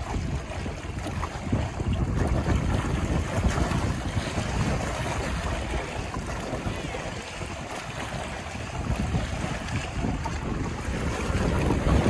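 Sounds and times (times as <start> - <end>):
waves splashing against rocks: 0.0 - 12.0
wind gusting over microphone: 0.0 - 12.0.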